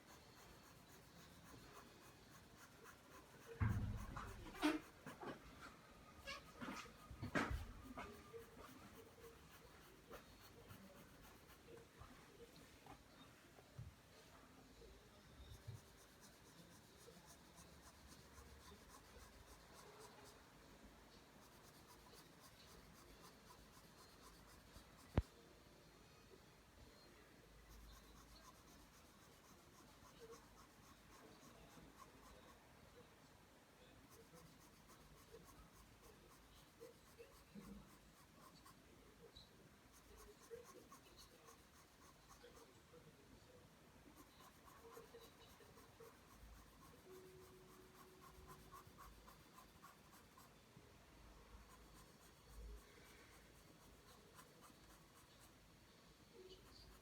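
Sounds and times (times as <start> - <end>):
pencil drawing on paper: 0.0 - 5.4, 6.2 - 12.0, 15.4 - 25.4, 27.6 - 33.0, 33.8 - 43.1, 44.0 - 50.7, 51.5 - 57.0.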